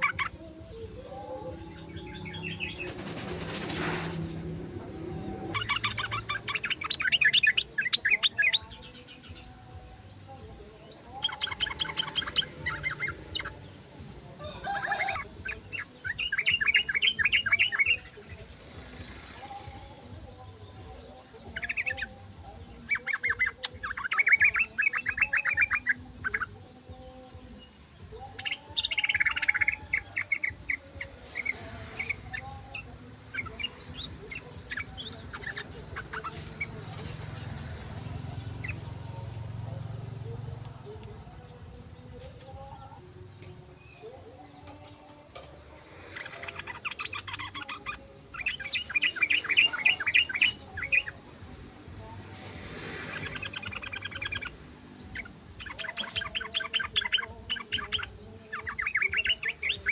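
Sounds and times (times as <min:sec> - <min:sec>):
bird singing chattering notes: 0:00.0 - 0:13.9, 0:14.6 - 0:26.6, 0:27.4 - 0:41.1, 0:43.4 - 0:51.7, 0:53.1 - 0:59.9.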